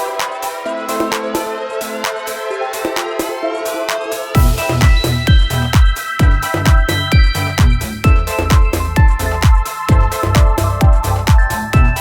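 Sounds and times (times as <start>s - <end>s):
electronic dance music kick drum: 0.0s - 12.0s.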